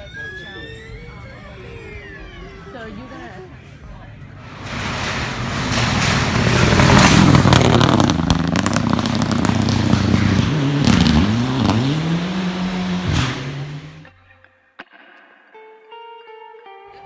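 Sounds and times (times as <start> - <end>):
gravel crackling under tyres: 0.0 - 14.1
rally car engine revving: 0.0 - 14.1.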